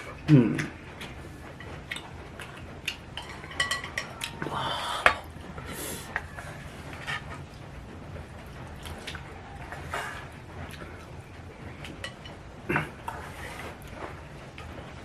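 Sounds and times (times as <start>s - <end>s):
utensils clinking against a bowl: 0.0s - 15.0s.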